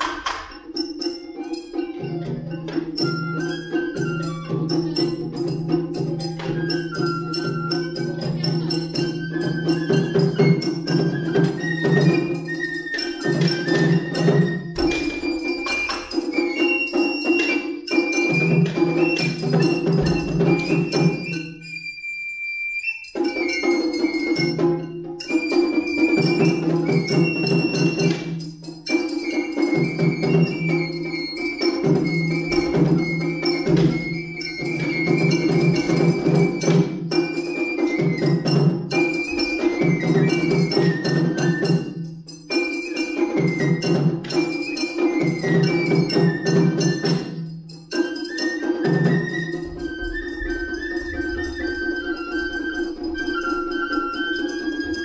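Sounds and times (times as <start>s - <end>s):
rapid drumming: 0.0s - 21.6s, 23.2s - 55.0s
bamboo flute melody: 0.0s - 55.0s.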